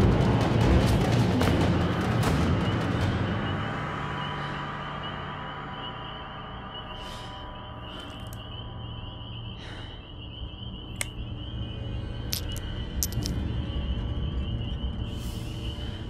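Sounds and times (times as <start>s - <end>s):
low sustained drone: 1.8s - 16.0s.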